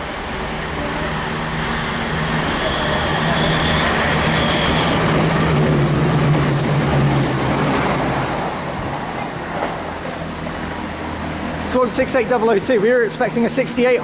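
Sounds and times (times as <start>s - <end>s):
diesel train engine drone: 0.0s - 14.0s
train wheel and rail noise: 0.0s - 14.0s.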